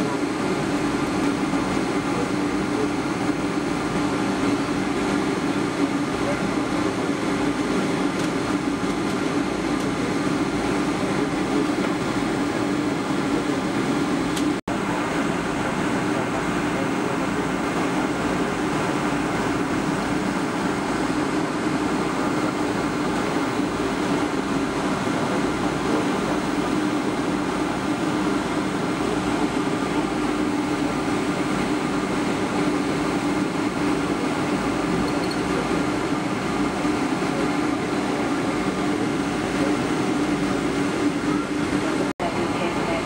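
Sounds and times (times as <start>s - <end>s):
airliner cabin drone: 0.0s - 43.0s.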